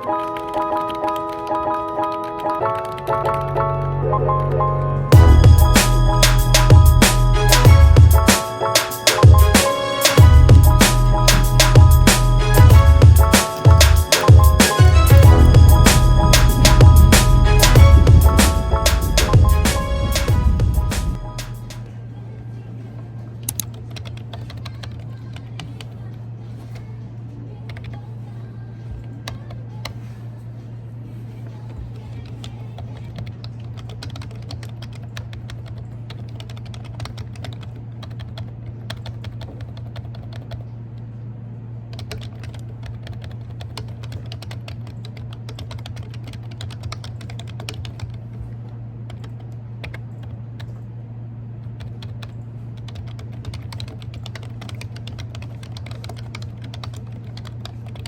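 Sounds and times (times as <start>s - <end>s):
computer keyboard typing: 0.0s - 21.9s, 23.4s - 26.0s, 27.7s - 28.0s, 31.7s - 40.7s, 41.9s - 48.5s, 49.1s - 50.8s, 51.7s - 58.0s
steady low hum: 2.6s - 58.0s.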